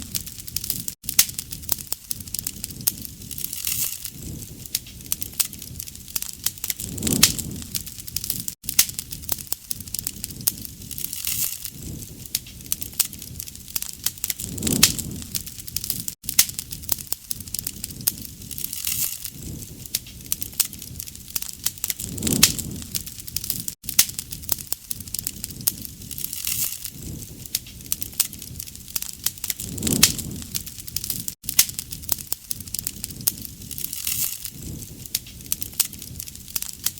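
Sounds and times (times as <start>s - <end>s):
bonfire crackling and popping: 0.0s - 36.9s
low rumble of flames: 0.0s - 36.9s.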